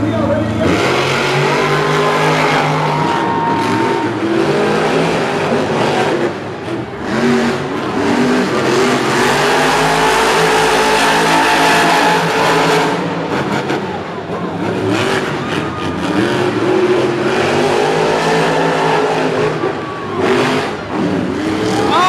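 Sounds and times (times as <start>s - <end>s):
truck engines revving hard: 0.0s - 22.0s.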